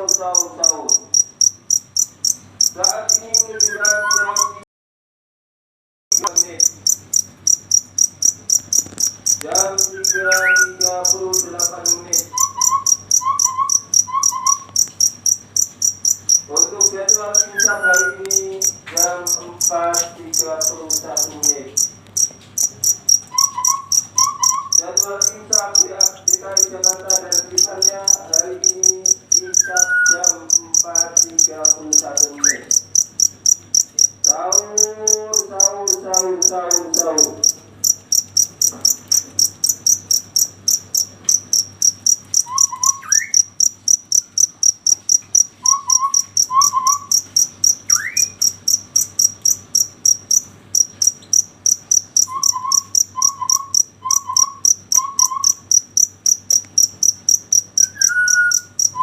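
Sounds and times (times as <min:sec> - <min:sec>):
cricket chirping: 0:00.0 - 0:04.6, 0:06.1 - 0:59.0.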